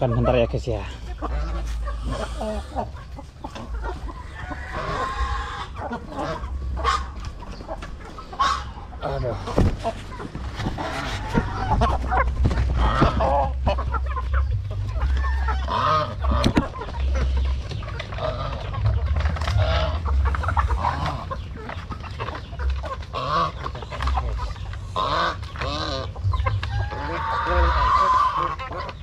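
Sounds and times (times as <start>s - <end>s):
chickens clucking: 0.0s - 29.0s
goose honking: 0.0s - 29.0s.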